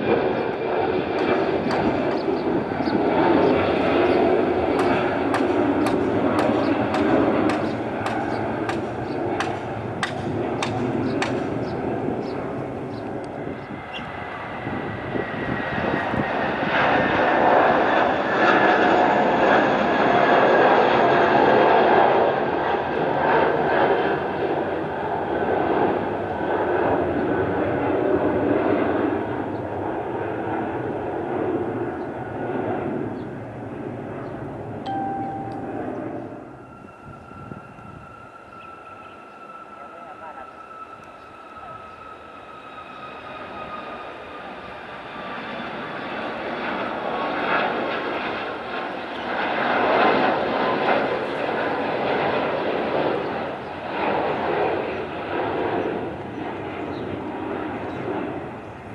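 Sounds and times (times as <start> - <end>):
jet engines roaring at takeoff: 0.0 - 35.0, 36.2 - 58.9.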